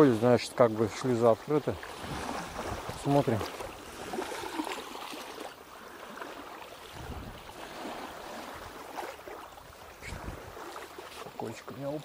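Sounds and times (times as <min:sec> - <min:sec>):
waves lapping at shore: 0:00.0 - 0:12.0.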